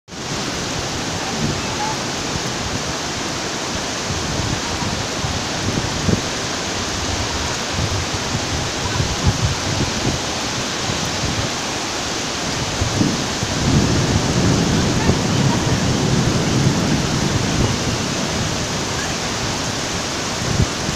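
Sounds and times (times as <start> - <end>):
flooded river rushing: 0.1 - 20.9
heavy rain: 0.1 - 20.9.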